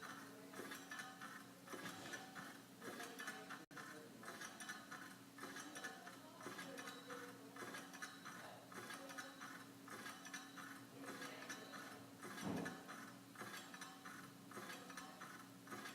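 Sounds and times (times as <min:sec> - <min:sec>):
ceiling fan motor hum: 0:00.0 - 0:15.9
fan blade ticking: 0:00.0 - 0:15.9.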